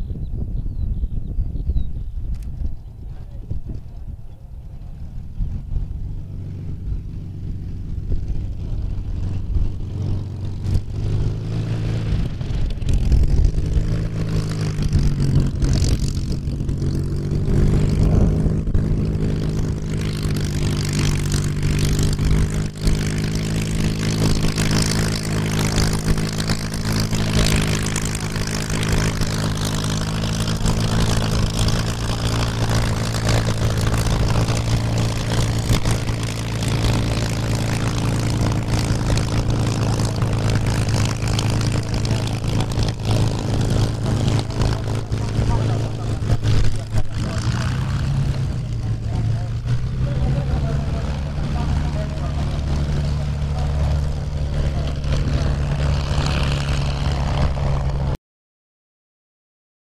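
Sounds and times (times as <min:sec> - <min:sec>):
propeller aircraft engine taxiing: 0:00.0 - 0:58.2.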